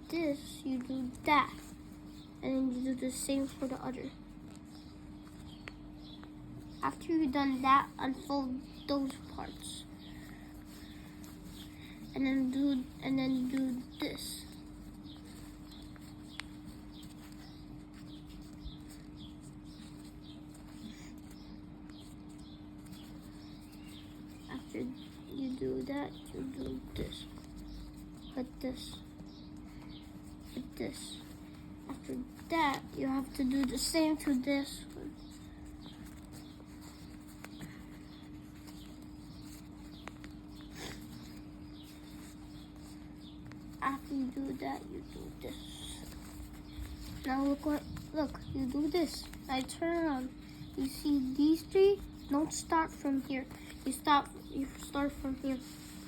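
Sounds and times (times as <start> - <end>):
faint small bird chirping: 0.0 - 56.0
low electrical hum: 0.0 - 56.0
paper being folded: 0.1 - 56.0.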